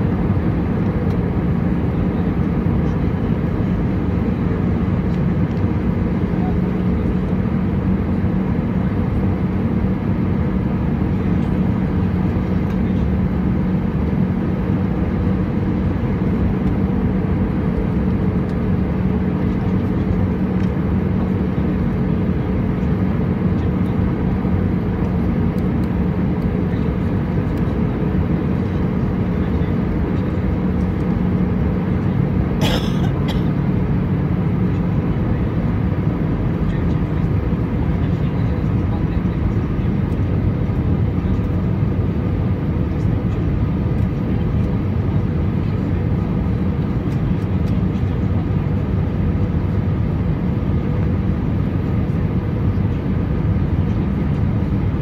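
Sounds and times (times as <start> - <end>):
aircraft cabin engine noise: 0.0 - 55.0
steady low hum: 0.0 - 55.0.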